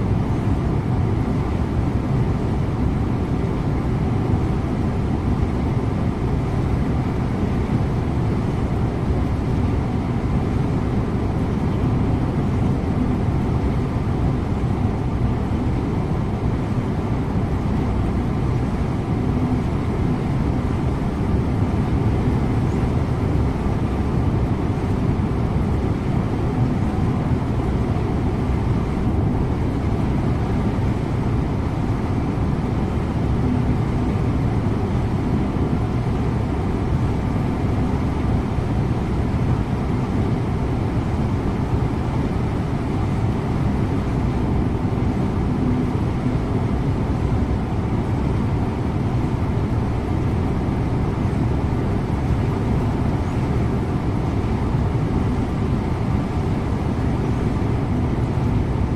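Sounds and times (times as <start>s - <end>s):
bus engine and road noise: 0.0s - 58.9s.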